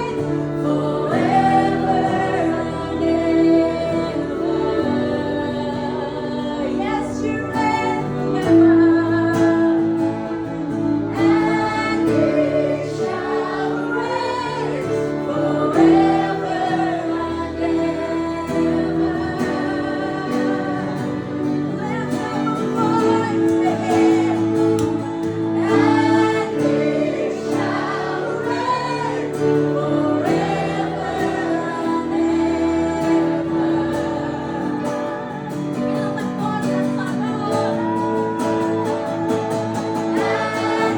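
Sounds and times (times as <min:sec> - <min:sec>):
person singing: 0:00.0 - 0:40.9.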